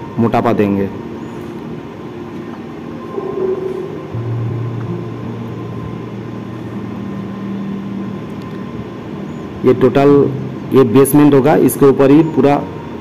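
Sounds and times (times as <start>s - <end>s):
background noise: 0.0s - 13.0s
low mechanical drone: 0.0s - 13.0s.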